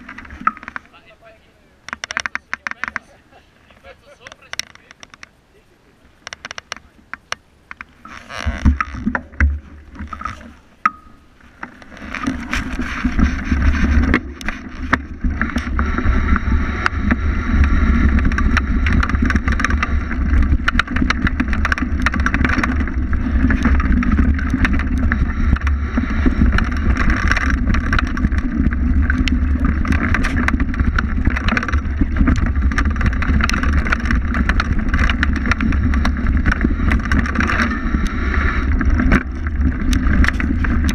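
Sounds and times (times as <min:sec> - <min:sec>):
bike rattling clicks and knocks: 0:00.0 - 0:03.2, 0:03.8 - 0:05.4, 0:06.2 - 0:40.9
bike tyre noise: 0:00.0 - 0:40.9
wind rumble on microphone: 0:07.6 - 0:40.9.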